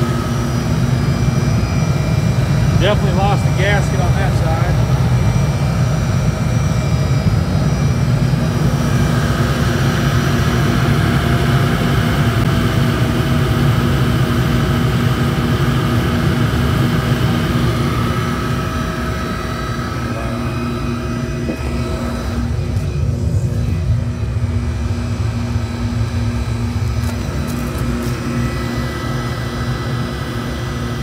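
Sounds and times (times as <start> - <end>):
blower hum: 0.0 - 31.0
burner combustion roar: 0.0 - 31.0.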